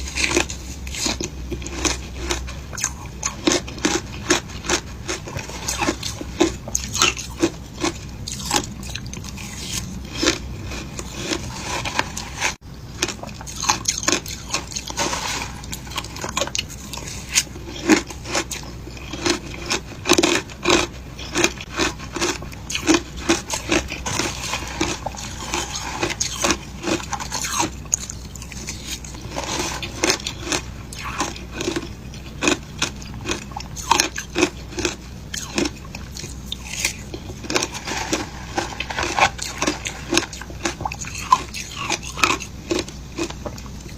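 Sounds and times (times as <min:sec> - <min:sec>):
crisp crunching of frozen ice: 0:00.0 - 0:43.9.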